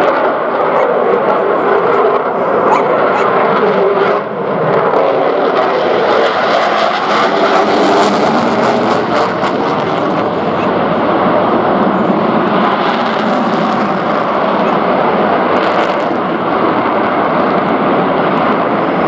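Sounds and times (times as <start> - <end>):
fighter jet engine roar: 0.0 - 19.0.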